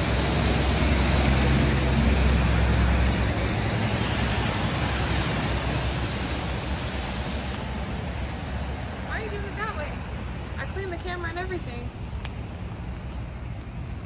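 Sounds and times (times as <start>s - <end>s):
heavy low rumble: 0.0s - 14.0s.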